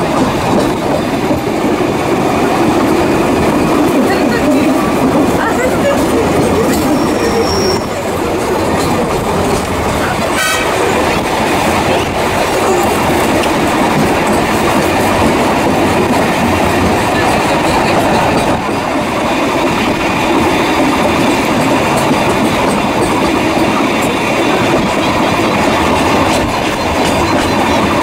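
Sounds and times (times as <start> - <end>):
train wheels rolling on track: 0.0 - 28.0.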